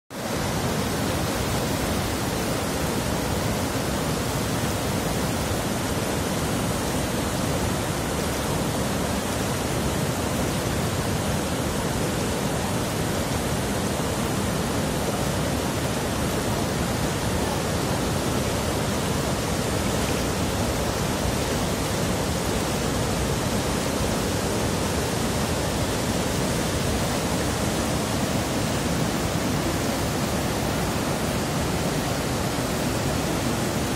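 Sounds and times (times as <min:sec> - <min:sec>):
stream rushing over boulders: 0:00.1 - 0:33.9.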